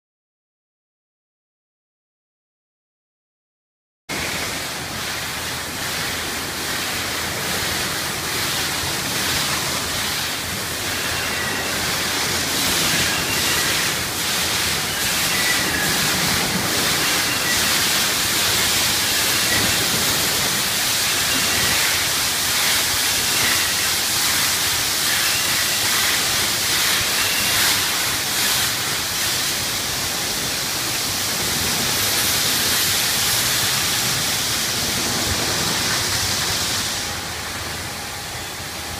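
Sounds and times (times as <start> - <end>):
water sprays hissing and splashing: 4.1 - 38.0.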